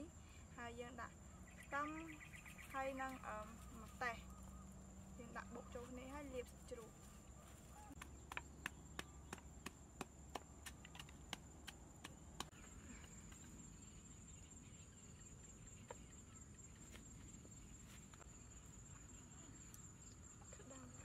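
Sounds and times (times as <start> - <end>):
insect trill: 0.0 - 21.0.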